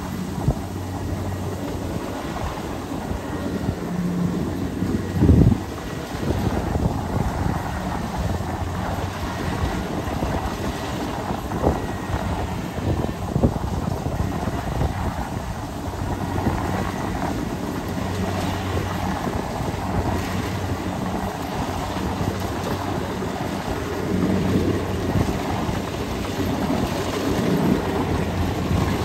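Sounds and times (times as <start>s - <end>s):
diesel engine hum: 0.0s - 29.0s
harvesting machinery noise: 0.0s - 29.0s.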